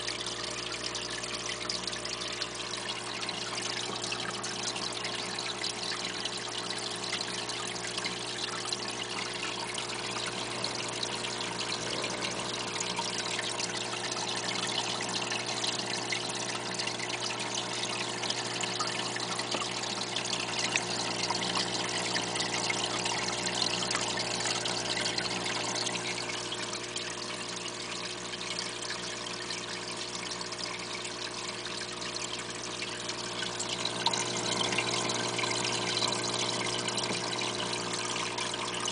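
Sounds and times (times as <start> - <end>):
low steady hum: 0.0 - 38.9
water trickling and splashing: 0.0 - 38.9.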